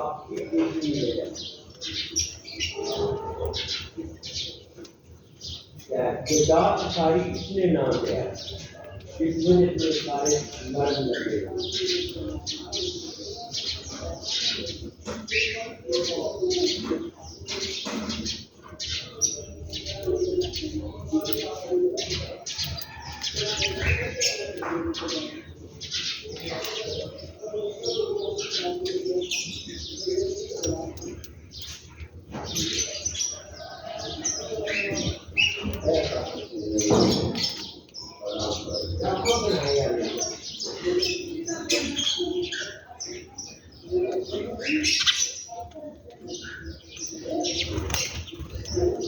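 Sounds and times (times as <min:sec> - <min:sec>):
low cooing calls: 0:00.0 - 0:49.0
small birds chirping: 0:00.0 - 0:49.0.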